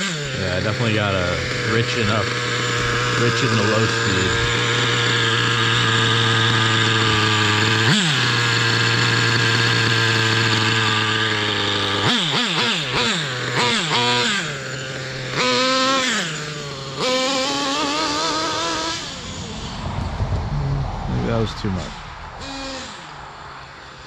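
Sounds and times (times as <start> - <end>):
model engine idling and revving: 0.0 - 24.0.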